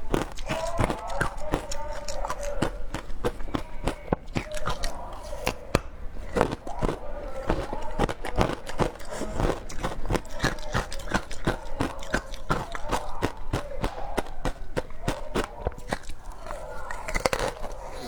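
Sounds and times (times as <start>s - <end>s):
ice crunched between teeth: 0.0s - 18.0s.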